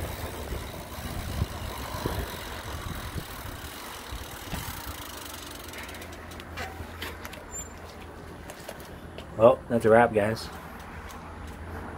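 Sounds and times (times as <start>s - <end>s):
wind and riding noise rumble: 0.0s - 11.9s.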